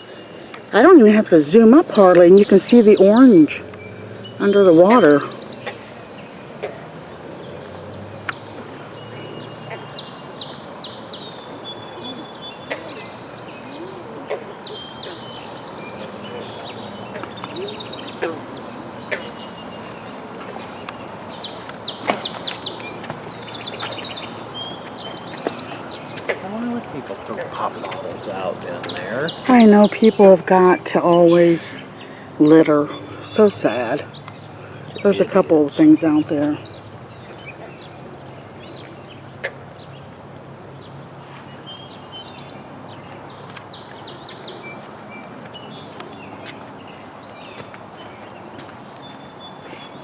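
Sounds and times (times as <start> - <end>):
birds chirping and trilling: 0.0 - 50.0
steady background hiss: 0.0 - 50.0.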